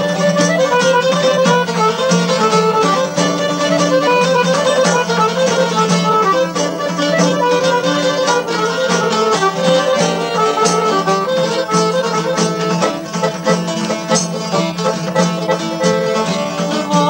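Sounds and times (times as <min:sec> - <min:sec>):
accordion: 0:00.0 - 0:17.0
plucked lutes: 0:00.0 - 0:17.0.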